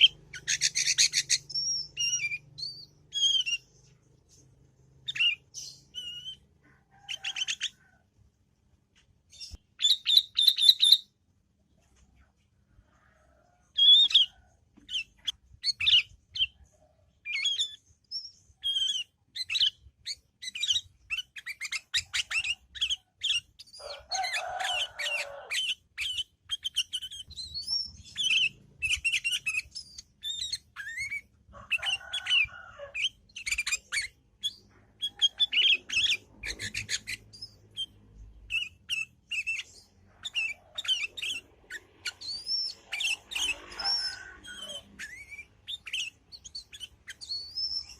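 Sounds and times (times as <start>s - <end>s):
bird chattering and trilling: 0.0s - 7.9s, 9.3s - 11.2s, 13.6s - 47.9s.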